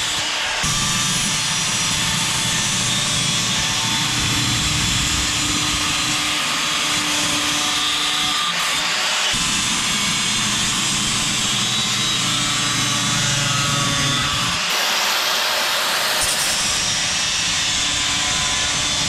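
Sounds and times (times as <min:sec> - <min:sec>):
power tool cutting steel: 0:00.0 - 0:19.0.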